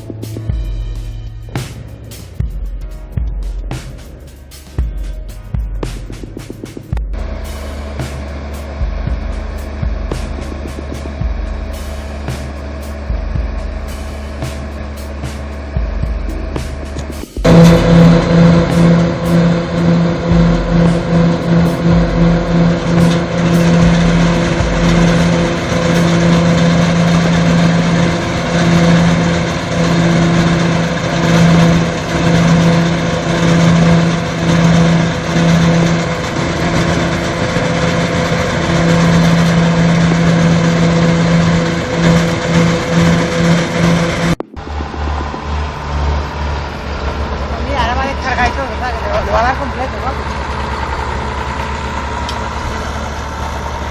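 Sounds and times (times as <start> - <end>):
heavy machine engine humming: 0.0 - 53.9.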